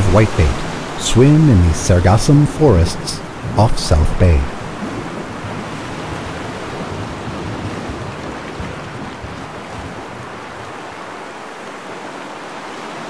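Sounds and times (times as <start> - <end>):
sea rushing: 0.0 - 13.0.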